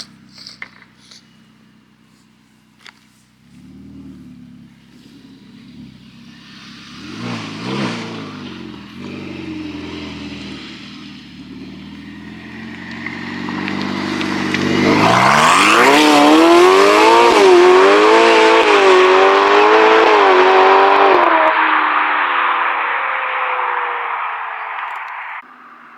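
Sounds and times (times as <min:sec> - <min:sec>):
supercar engine revving: 0:03.4 - 0:25.9.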